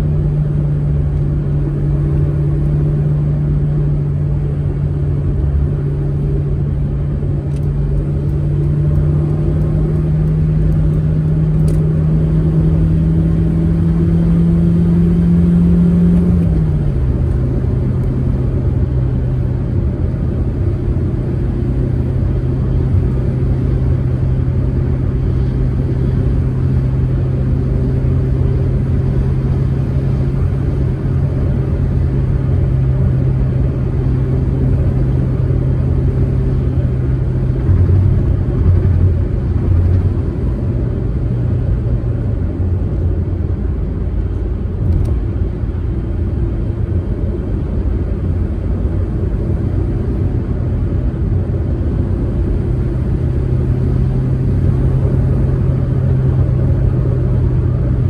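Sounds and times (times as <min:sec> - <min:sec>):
car engine droning: 0:00.0 - 0:58.0
road rumble: 0:00.0 - 0:58.0.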